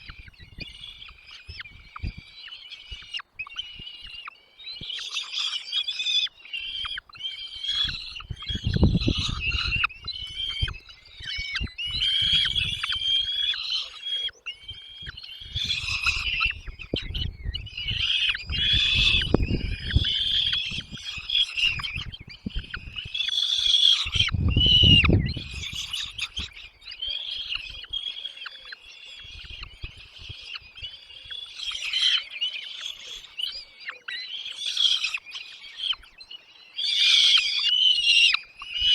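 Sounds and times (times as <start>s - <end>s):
nestling birds chirping: 0.0s - 38.9s.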